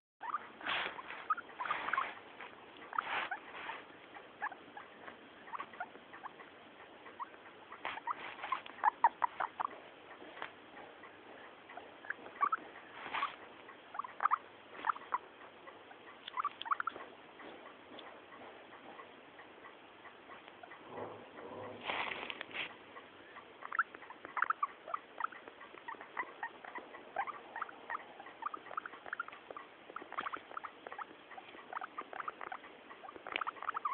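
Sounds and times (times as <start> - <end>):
guinea pig squeaking: 0.2 - 33.9.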